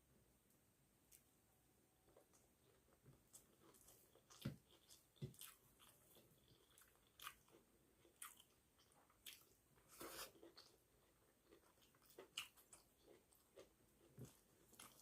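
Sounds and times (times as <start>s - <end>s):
wet chewing and mouth smacks: 2.2s - 15.0s.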